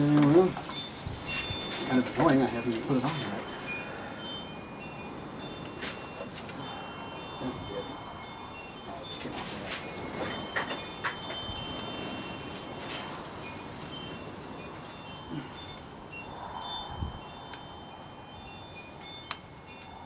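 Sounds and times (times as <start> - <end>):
wind chimes tinkling: 0.0 - 20.0.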